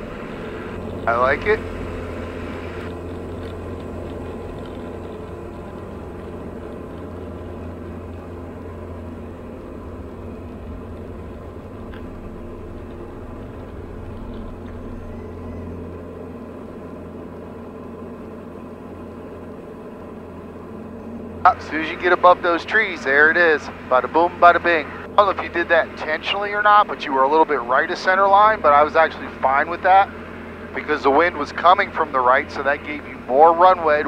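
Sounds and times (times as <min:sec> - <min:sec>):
airplane engine and propeller droning: 0:00.0 - 0:34.0.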